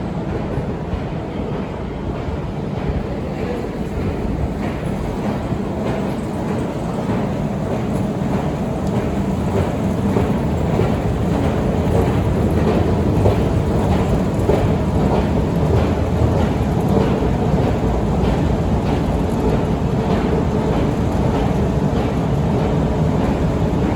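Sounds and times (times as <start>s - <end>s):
escalator steps clattering: 0.0s - 23.9s.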